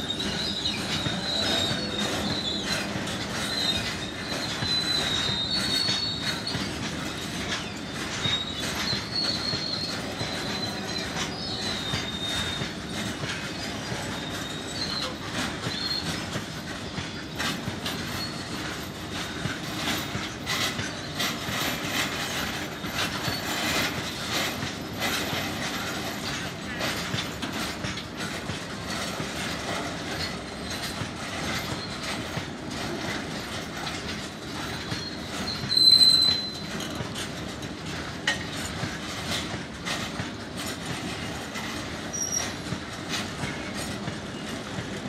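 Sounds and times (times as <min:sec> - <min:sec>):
high wheel squeal: 0:00.0 - 0:40.2, 0:40.9 - 0:45.0
rail-joint clicks: 0:00.0 - 0:45.0
train wheels rumbling on rail: 0:00.0 - 0:45.0.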